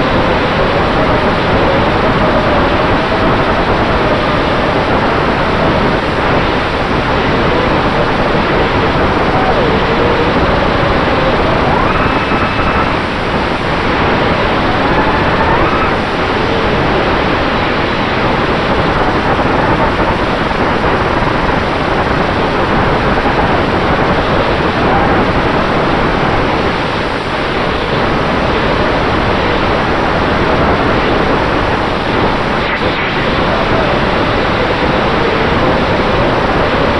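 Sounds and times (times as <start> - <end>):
wind rushing: 0.0 - 36.9.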